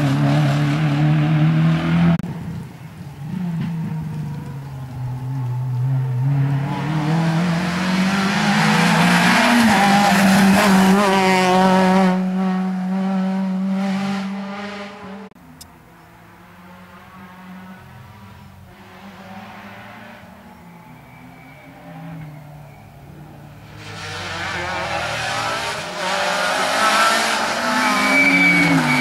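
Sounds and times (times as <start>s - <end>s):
rally car engine at full throttle: 0.0s - 29.0s
road and tyre noise: 0.0s - 29.0s.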